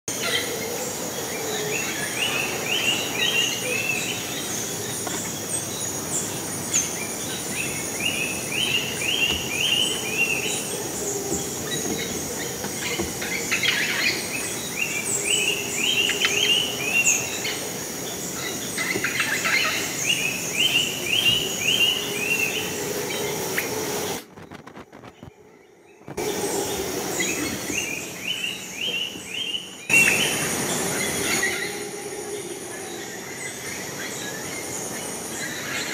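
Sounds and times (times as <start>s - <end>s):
steady high-pitched whine: 0.1s - 35.9s.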